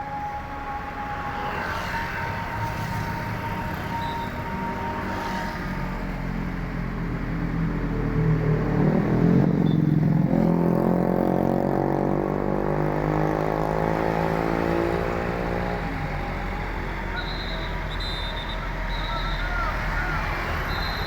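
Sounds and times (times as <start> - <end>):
bus diesel engine drone: 0.0 - 21.0.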